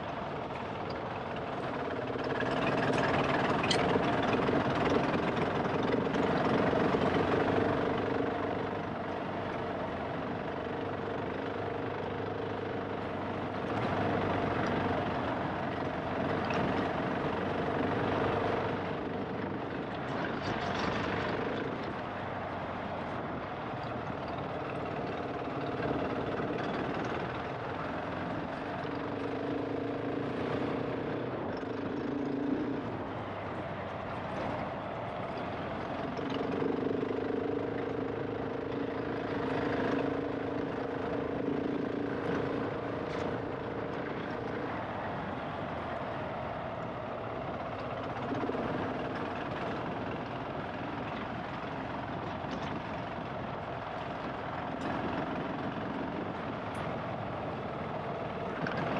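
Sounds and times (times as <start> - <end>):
motorcycle engine running: 0.0 - 58.9
rush of riding noise: 0.0 - 58.9.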